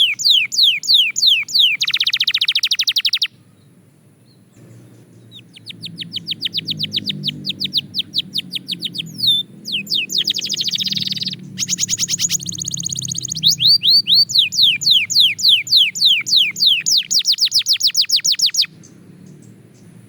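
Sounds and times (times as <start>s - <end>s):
canary singing trills and chirps: 0.0s - 20.0s.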